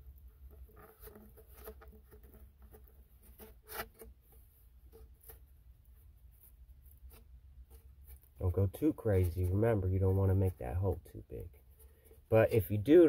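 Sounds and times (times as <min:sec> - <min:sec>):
cardboard tube scraping and crunching: 0:00.1 - 0:13.0.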